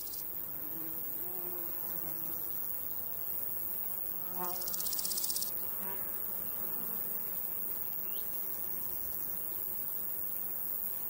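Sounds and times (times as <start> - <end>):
insects and crickets din: 0.0 - 11.0.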